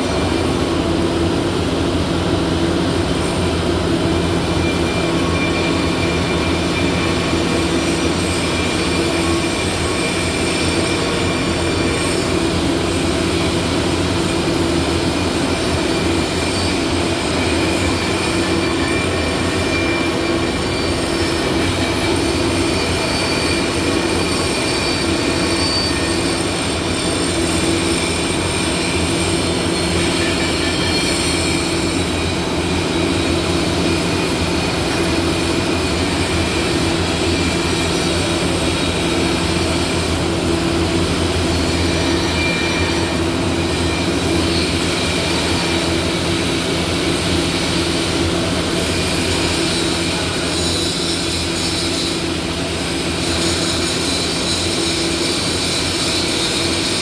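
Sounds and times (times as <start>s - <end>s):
workshop machinery hiss and din: 0.0s - 57.0s.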